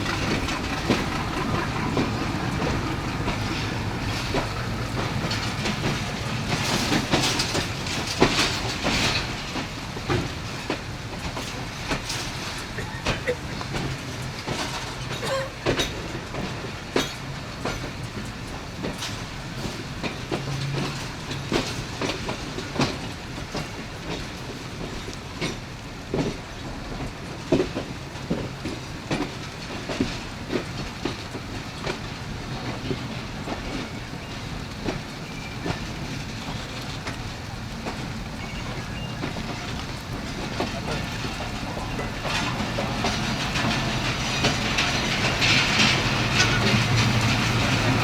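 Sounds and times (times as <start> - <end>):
wheels knocking over rail joints: 0.0 - 18.1, 27.6 - 48.0
train rumble: 0.0 - 48.0.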